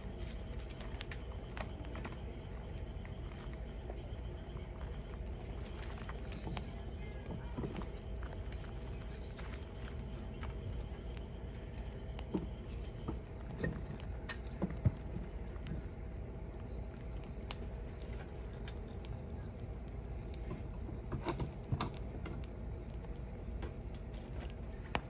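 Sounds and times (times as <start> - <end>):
low rumble of flame: 0.0 - 25.0
wood fire crackling and popping: 0.0 - 25.0.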